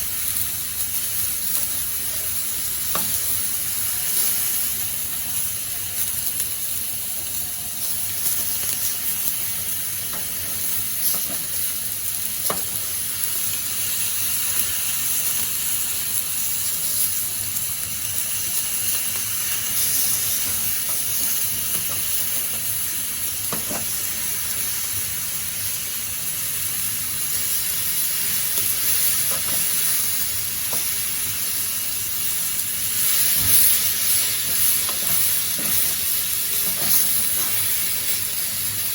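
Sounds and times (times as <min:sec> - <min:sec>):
cookware sizzling hiss: 0:00.0 - 0:38.9.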